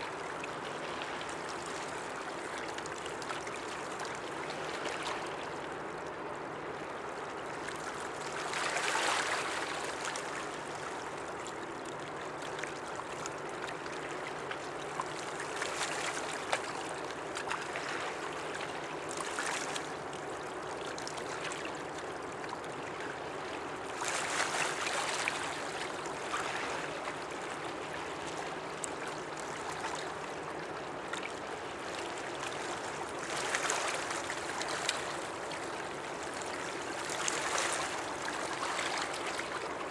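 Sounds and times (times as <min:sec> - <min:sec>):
river water lapping on shore: 0:00.0 - 0:39.9.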